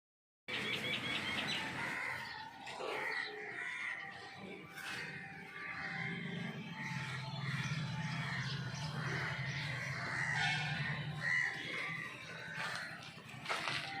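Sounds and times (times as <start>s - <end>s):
birds calling: 0.5s - 14.0s.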